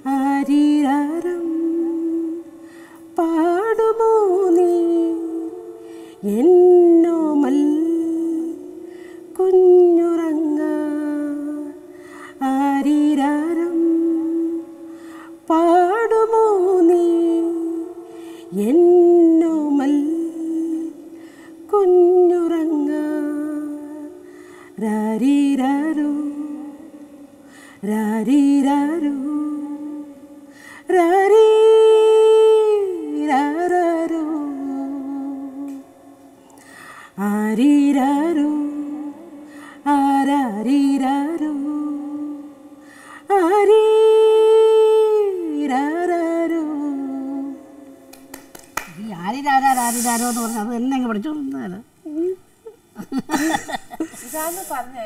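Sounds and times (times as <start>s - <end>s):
woman singing unaccompanied: 0.0s - 36.4s, 37.1s - 55.0s.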